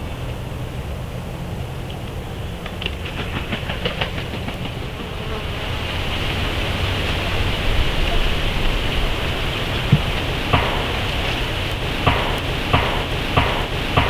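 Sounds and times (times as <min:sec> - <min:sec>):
microphone hiss and rumble: 0:00.0 - 0:14.0.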